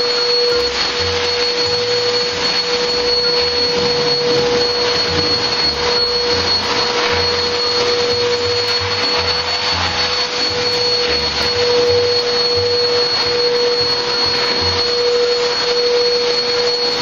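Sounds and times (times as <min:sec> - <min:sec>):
vacuum cleaner whining: 0:00.0 - 0:17.0
vacuum tool drawn across floor: 0:00.1 - 0:17.0.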